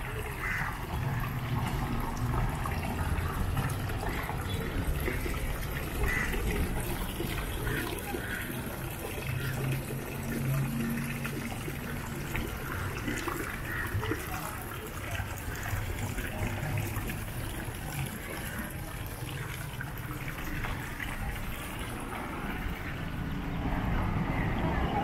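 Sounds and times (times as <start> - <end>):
distant voices: 0.0 - 25.0
fountain water splashing: 0.0 - 25.0.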